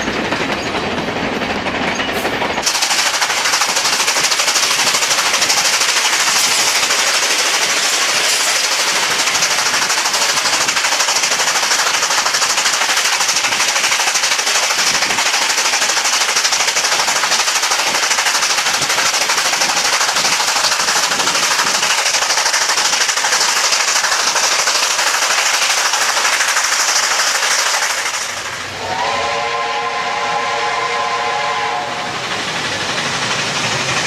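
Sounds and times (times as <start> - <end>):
steam locomotive rattling: 0.0 - 34.0.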